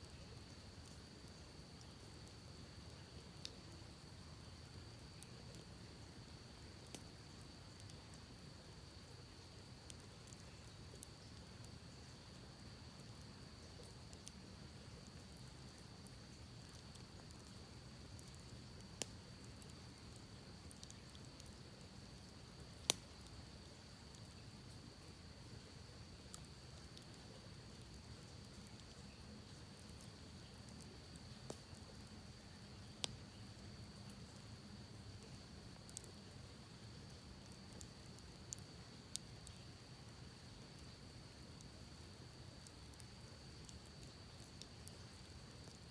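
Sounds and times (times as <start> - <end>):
campfire crackling: 0.0 - 45.9
fire popping: 0.1 - 45.9.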